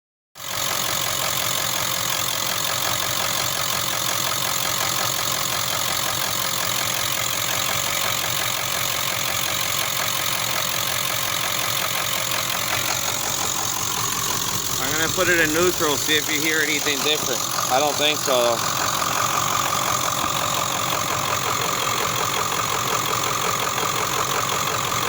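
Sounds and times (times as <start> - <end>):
diesel engine idling with knock: 0.4 - 25.0.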